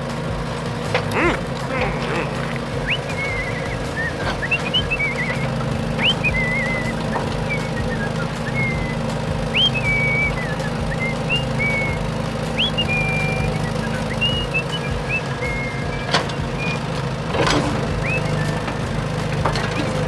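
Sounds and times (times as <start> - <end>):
low engine rumble: 0.0 - 20.0
short rising whistles: 1.2 - 17.0, 17.7 - 19.1.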